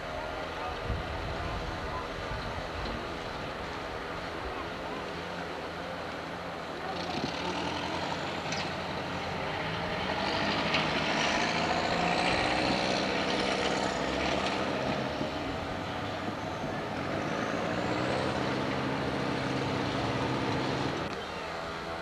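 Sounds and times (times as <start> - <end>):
diesel locomotive engine running: 0.0 - 22.0.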